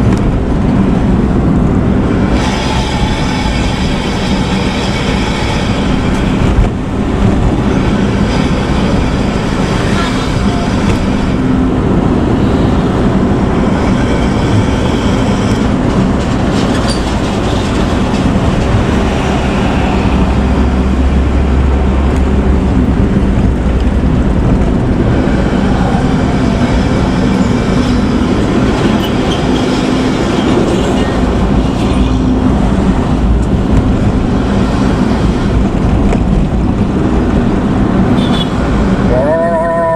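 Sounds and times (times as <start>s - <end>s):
bus exhaust deep rumble: 0.0s - 39.9s.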